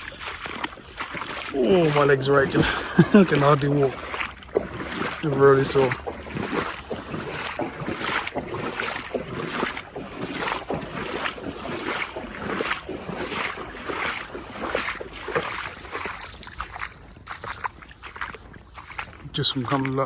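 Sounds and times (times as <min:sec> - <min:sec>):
footsteps wading through water: 0:00.0 - 0:20.0.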